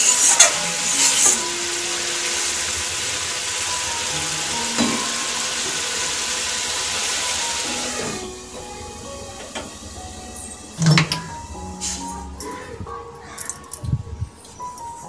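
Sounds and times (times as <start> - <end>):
curry simmering and sizzling: 0.0 - 12.1.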